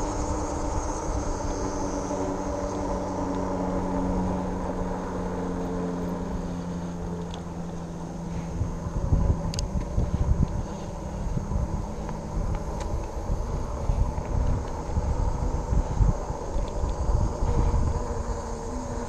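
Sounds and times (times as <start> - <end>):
electric bike motor hum: 0.0 - 19.0
tyres rolling on asphalt: 0.0 - 19.0
wind buffeting microphone: 0.0 - 19.0.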